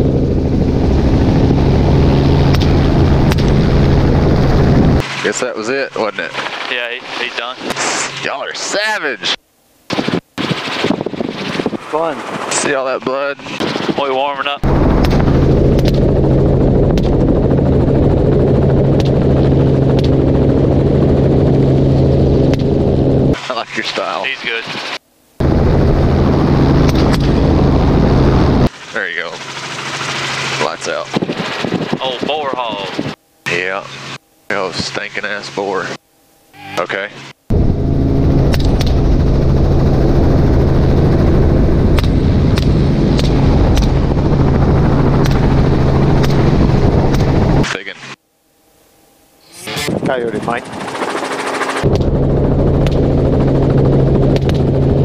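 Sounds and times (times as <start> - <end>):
helicopter engine and rotor drone: 0.0 - 36.0, 36.6 - 48.2, 49.4 - 55.0.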